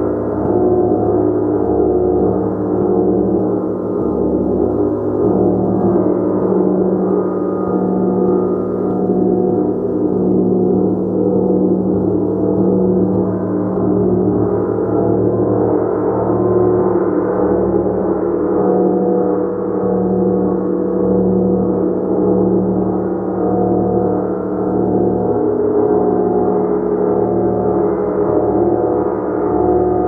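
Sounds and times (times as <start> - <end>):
gong sustained wash: 0.0 - 30.0.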